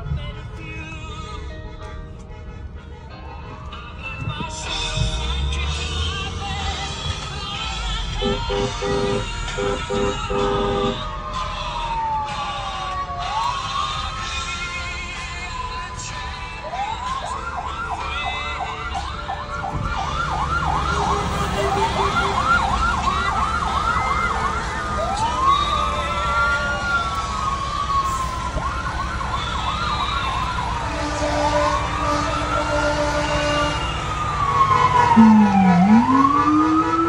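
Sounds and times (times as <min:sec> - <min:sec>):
fire truck sirens: 0:00.0 - 0:37.0
low rumble of engines: 0:00.0 - 0:37.0.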